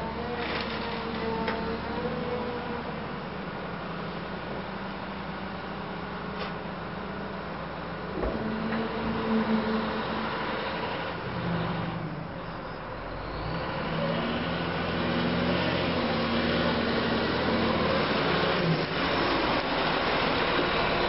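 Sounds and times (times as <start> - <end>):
wheel loader diesel engine running: 0.0 - 21.0.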